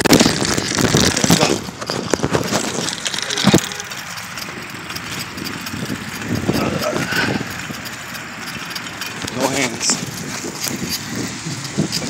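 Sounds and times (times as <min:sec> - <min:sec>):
bicycle rattling over ground: 0:00.0 - 0:12.0
wind: 0:00.0 - 0:12.0.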